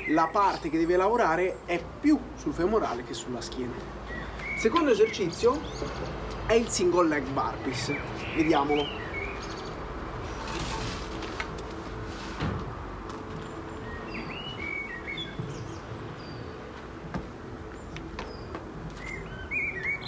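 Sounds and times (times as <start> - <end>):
small birds chirping: 0.0 - 11.0, 13.3 - 20.0.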